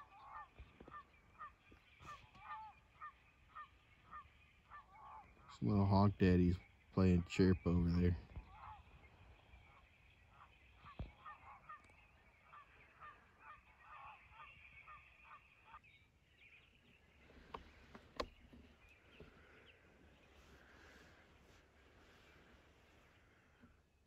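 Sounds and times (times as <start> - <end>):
distant crows cawing: 0.0 - 23.8.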